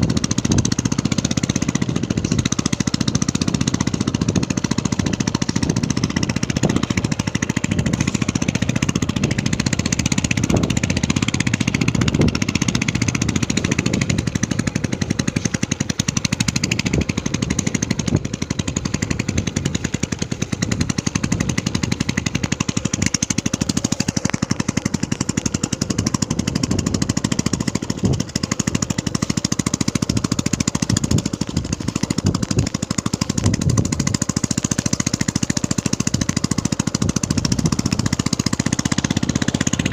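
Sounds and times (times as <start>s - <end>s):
small engine thumping: 0.0s - 39.9s.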